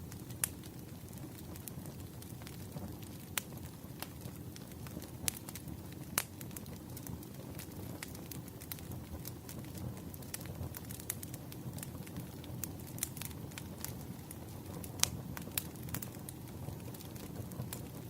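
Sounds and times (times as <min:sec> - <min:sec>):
firewood crackling: 0:00.0 - 0:18.0.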